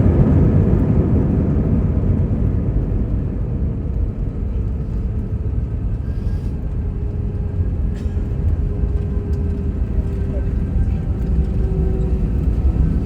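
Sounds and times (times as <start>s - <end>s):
airliner cabin rumble while taxiing: 0.0s - 13.0s.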